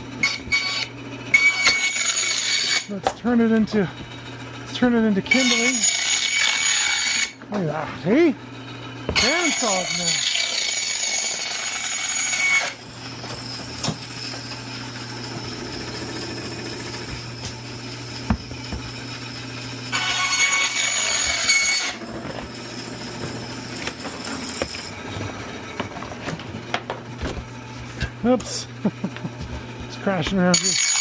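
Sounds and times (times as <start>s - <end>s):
bandsaw motor hum: 0.0s - 31.0s.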